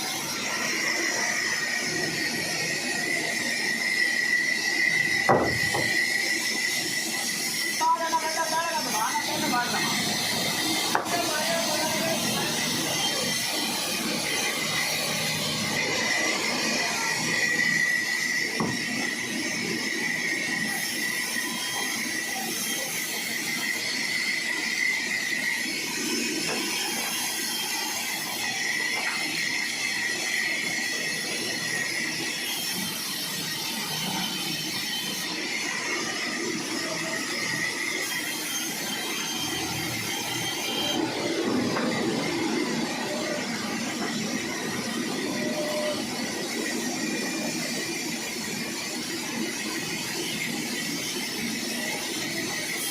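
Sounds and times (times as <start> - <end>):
sawmill machine whine: 0.0 - 52.9.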